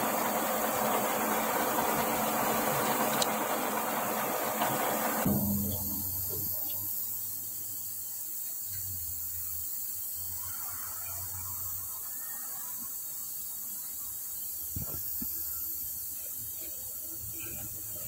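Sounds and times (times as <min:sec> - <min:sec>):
machine shop hum and hiss: 0:00.0 - 0:18.0.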